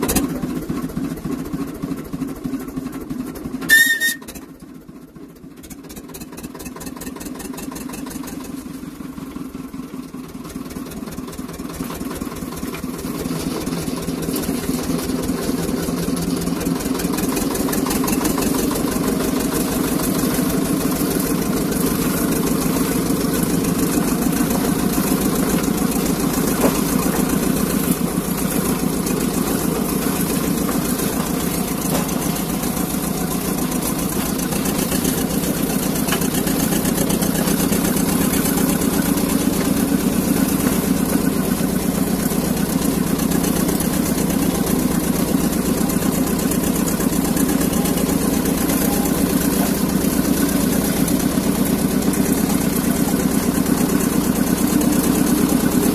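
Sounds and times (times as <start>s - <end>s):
locomotive engine running: 0.0s - 55.9s.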